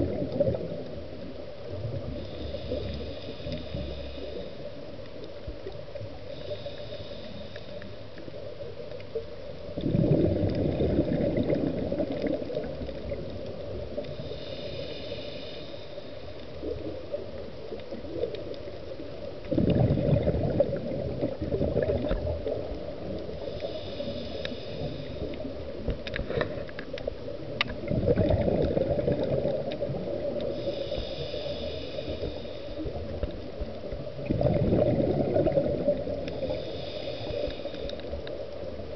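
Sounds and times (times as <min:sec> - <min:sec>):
faint regulator hiss: 0:00.0 - 0:19.7, 0:20.3 - 0:38.9
exhaled bubbles gurgling underwater: 0:00.0 - 0:38.9.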